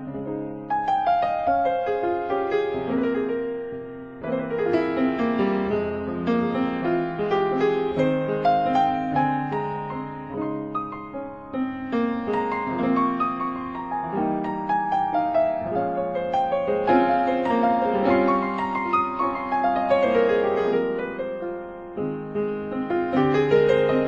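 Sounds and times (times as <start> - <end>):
slow piano melody: 0.0 - 24.0.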